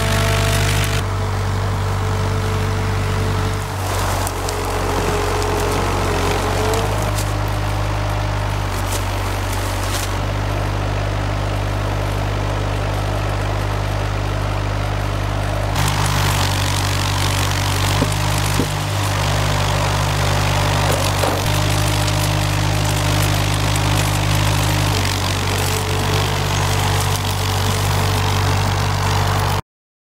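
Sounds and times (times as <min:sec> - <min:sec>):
hydraulic crane loading logs: 0:00.0 - 0:29.6
machine engine running: 0:00.0 - 0:29.6.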